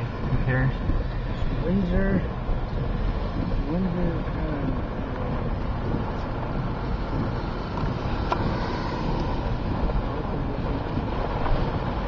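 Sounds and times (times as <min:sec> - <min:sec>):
car interior road noise: 0:00.0 - 0:12.0
wind over open car window: 0:00.0 - 0:12.0.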